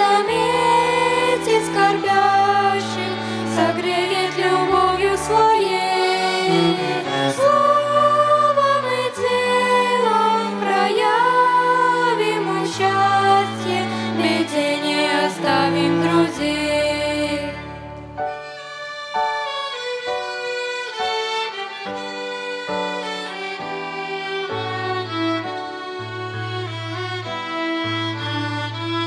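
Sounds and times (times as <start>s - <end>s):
violin ensemble playing: 0.0s - 29.0s.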